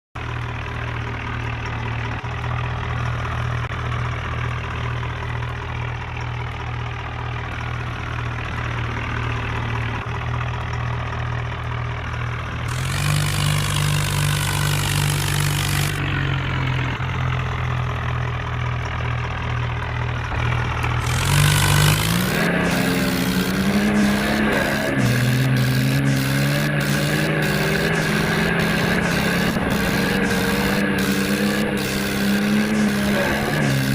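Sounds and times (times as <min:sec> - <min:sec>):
tractor engine idling and revving: 0:00.0 - 0:33.9.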